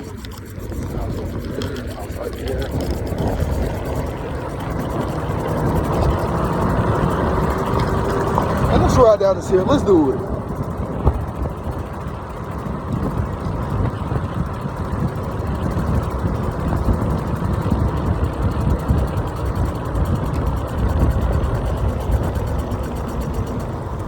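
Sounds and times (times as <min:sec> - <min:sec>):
tyre and road noise: 0:00.0 - 0:24.0
wind rumbling on microphone: 0:00.0 - 0:24.0.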